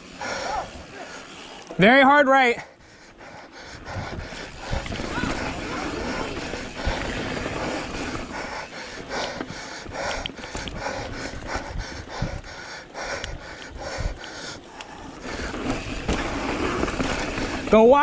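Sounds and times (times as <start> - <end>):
person breathing hard: 0.0 - 1.7, 2.7 - 17.6
bike rumbling on dirt trail: 0.0 - 2.0, 2.6 - 18.0.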